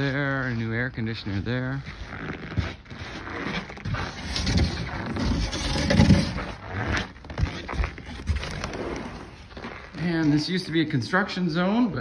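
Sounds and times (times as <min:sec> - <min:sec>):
footsteps on snow: 0:00.0 - 0:05.5, 0:06.3 - 0:12.0.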